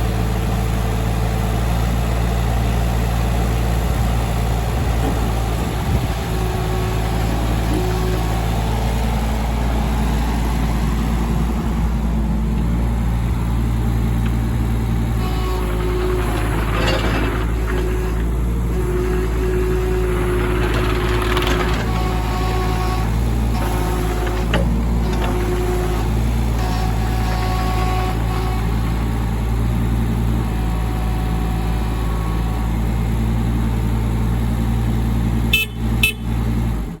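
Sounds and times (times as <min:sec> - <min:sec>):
diesel engine running steadily: 0:00.0 - 0:37.0.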